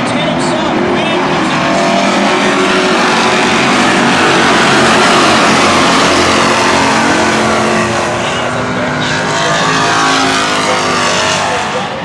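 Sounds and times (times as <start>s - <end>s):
stock cars racing: 0.0s - 12.0s.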